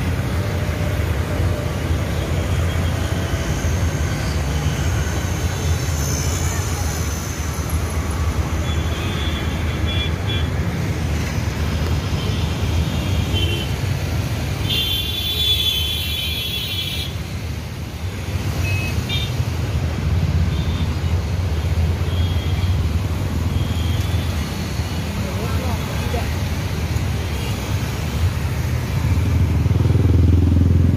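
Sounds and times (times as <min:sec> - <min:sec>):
trucks and buses rumbling past: 0:00.0 - 0:14.7, 0:17.0 - 0:30.9.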